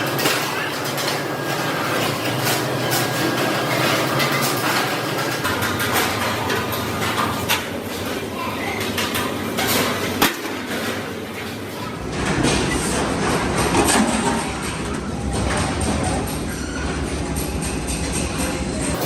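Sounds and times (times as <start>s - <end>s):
workshop din: 0.0s - 19.0s.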